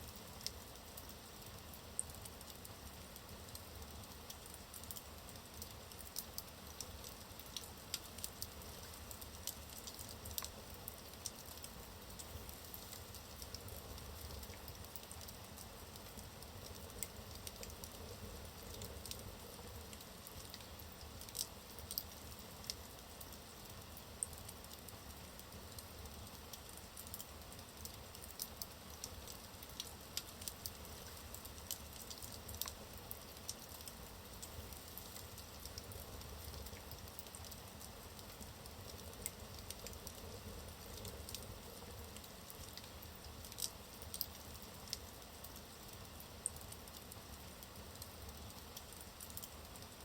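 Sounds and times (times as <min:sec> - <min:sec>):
fire crackling and popping: 0:00.1 - 0:50.0.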